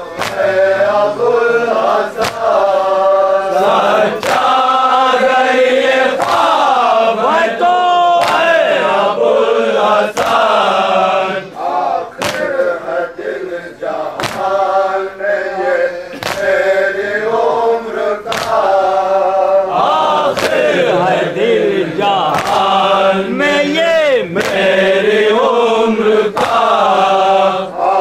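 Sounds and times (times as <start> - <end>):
men chanting a lament: 0.0 - 28.0
rhythmic chest-beating slaps: 0.0 - 28.0.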